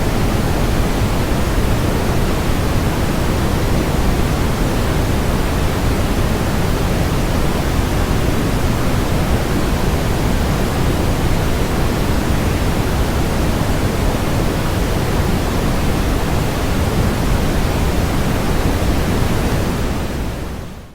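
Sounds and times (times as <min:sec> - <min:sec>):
brown noise hiss: 0:00.0 - 0:20.9.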